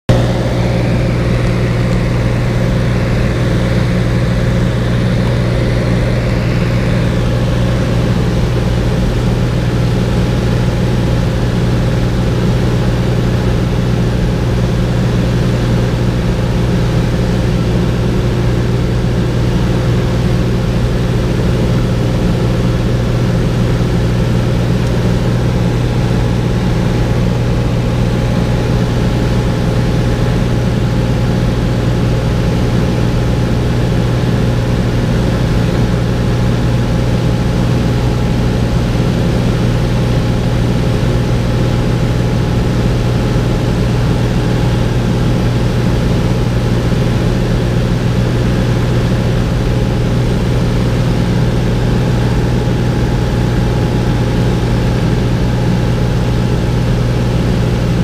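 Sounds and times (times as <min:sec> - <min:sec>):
air rushing around cabin: 0:00.1 - 0:10.4, 0:15.6 - 0:58.0
aircraft engine and propeller drone: 0:00.1 - 0:58.0.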